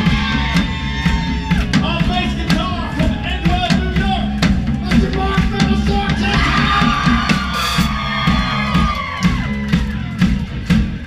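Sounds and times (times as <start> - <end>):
drum and cymbal hits: 0.0 - 11.0
rock band playing: 0.0 - 11.0.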